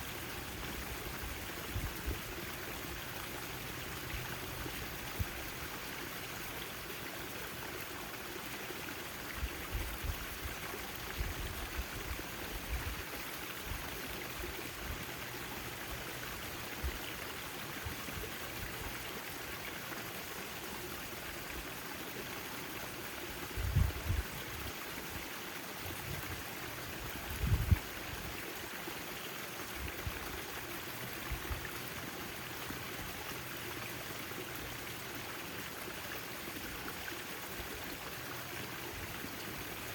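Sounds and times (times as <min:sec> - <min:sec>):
fountain water splashing: 0:00.0 - 0:23.6, 0:24.2 - 0:39.9.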